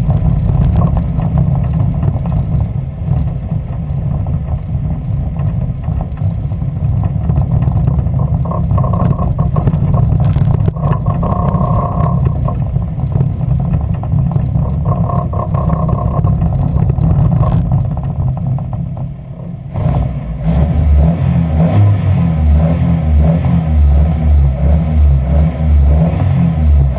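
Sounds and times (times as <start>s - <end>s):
car engine misfiring: 0.0s - 26.9s.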